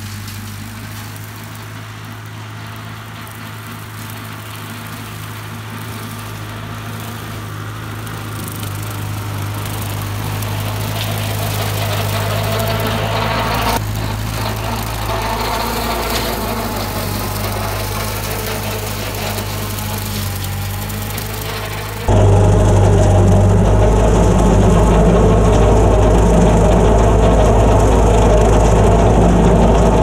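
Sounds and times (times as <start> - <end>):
mower cutting tall grass: 0.0 - 30.0
tractor engine running: 0.0 - 30.0.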